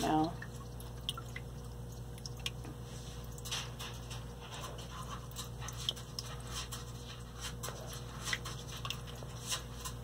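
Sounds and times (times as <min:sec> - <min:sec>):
water drips: 0:00.0 - 0:10.0
water filter humming: 0:00.0 - 0:10.0.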